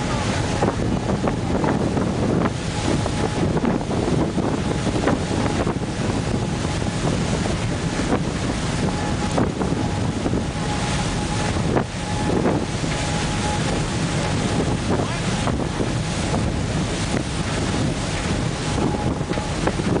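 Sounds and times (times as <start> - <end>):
water noise: 0.0 - 20.0
wind on microphone: 0.0 - 20.0.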